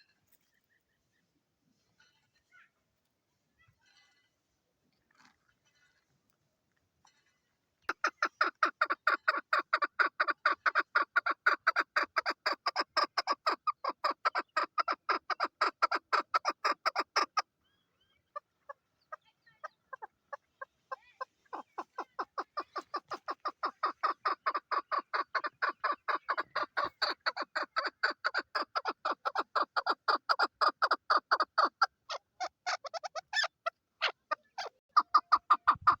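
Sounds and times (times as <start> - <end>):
partridge clucking calls: 7.1 - 36.0.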